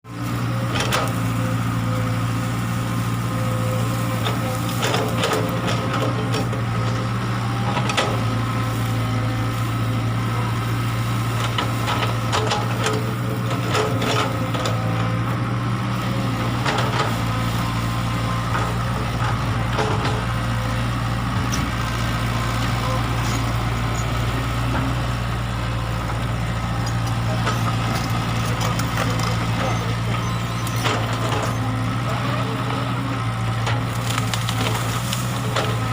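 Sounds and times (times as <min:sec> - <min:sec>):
excavator engine running: 0:00.1 - 0:35.9.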